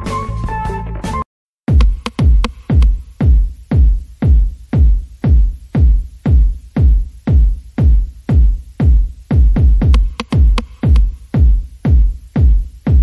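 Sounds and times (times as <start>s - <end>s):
electronic music: 0.0s - 13.0s
heavy bass kick drum: 1.7s - 13.0s.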